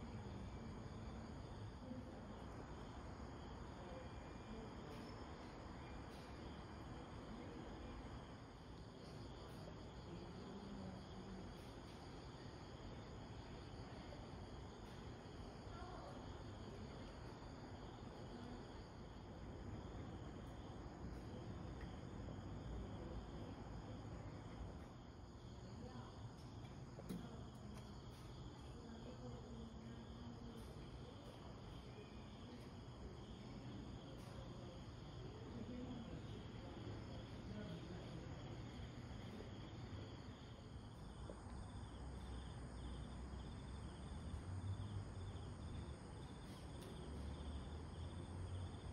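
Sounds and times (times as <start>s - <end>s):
crickets chirring: 0.0s - 48.9s
faint low hum: 0.0s - 48.9s.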